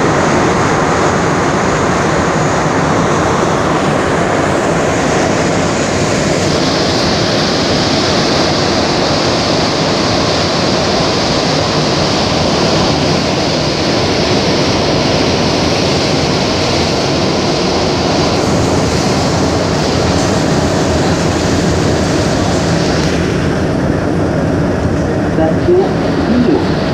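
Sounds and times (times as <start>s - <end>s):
metro train rumble and hiss: 0.0s - 26.9s.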